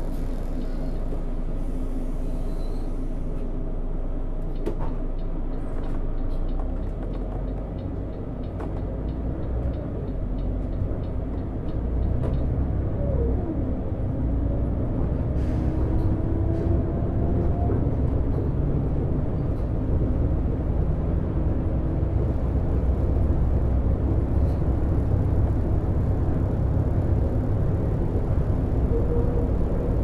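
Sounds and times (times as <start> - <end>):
bus diesel engine running: 0.0 - 30.0
road rumble: 0.0 - 30.0.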